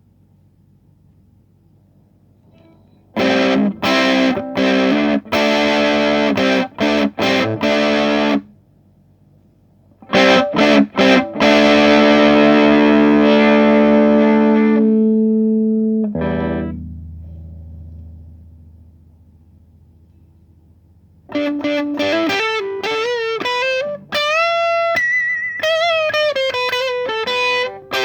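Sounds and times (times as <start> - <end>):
distorted electric guitar chords: 2.6 - 8.5, 10.0 - 28.0.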